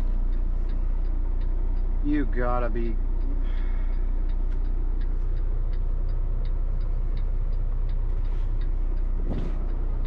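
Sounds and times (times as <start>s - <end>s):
diesel truck engine running: 0.0s - 10.0s
light regular ticking: 0.0s - 10.0s.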